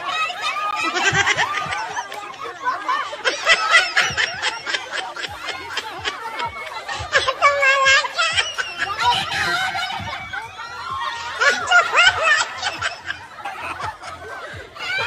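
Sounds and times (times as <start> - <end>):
people laughing and chattering: 0.0 - 15.0.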